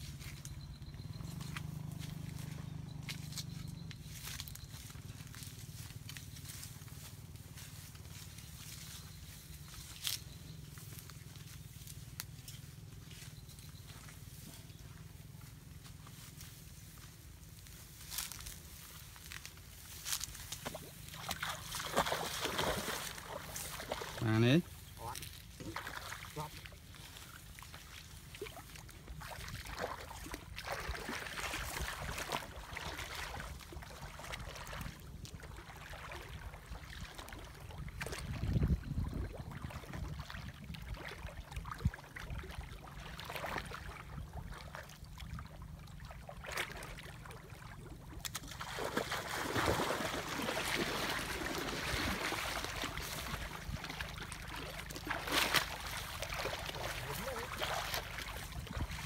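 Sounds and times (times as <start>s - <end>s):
water sloshing around wading legs: 0.0s - 59.0s.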